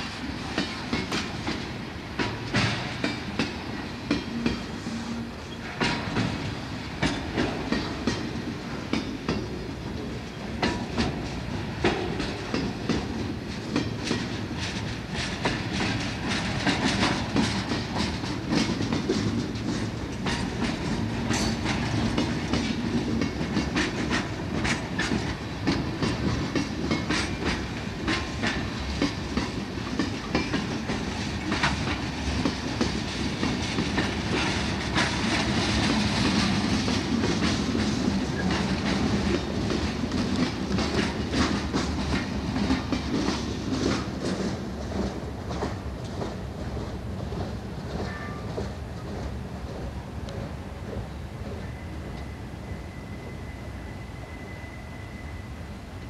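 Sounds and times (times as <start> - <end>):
train rolling rumble: 0.0 - 56.0
train wheels clacking over joints: 0.4 - 52.4.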